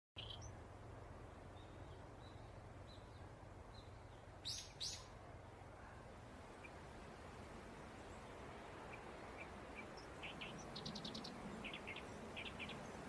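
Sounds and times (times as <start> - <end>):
faint bird chirps: 0.2 - 0.6, 1.5 - 13.0.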